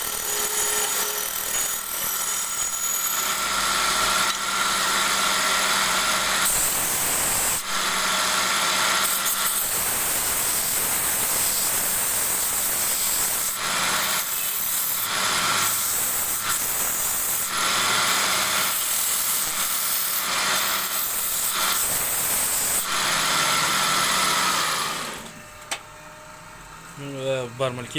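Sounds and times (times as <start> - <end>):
wood lathe motor hum: 0.0 - 27.3.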